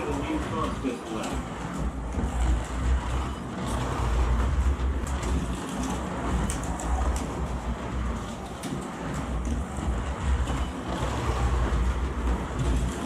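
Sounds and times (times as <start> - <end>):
plastic track rumbling: 0.0 - 13.0.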